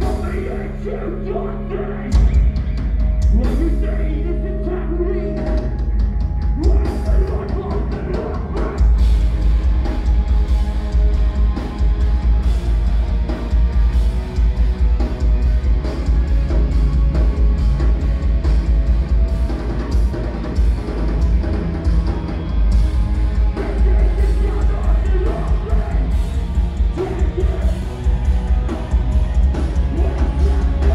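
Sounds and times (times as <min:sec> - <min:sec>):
distorted guitars: 0:00.0 - 0:30.9
rock vocals: 0:00.0 - 0:30.9
fast drumming with cymbals: 0:05.6 - 0:30.9.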